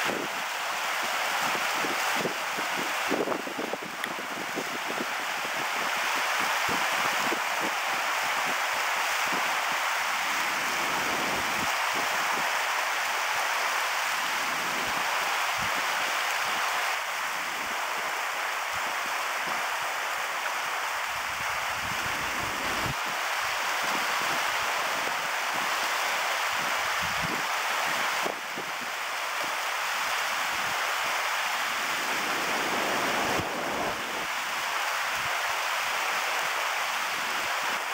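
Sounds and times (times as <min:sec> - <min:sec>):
creek water rushing over rocks: 0:00.0 - 0:37.9.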